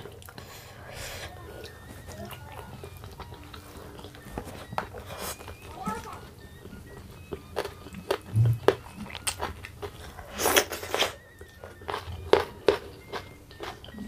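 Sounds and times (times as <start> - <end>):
close chewing with crunches: 0.0 - 14.0.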